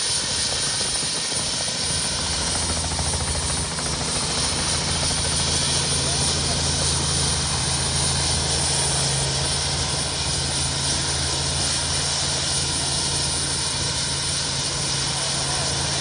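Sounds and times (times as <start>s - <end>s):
helicopter drone: 0.0s - 16.0s.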